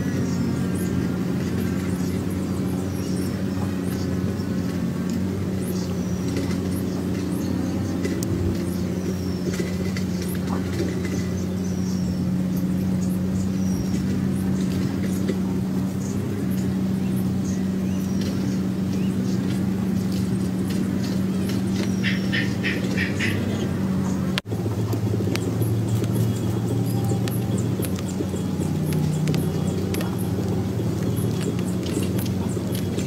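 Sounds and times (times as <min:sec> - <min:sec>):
low motor-like drone: 0:00.0 - 0:33.0.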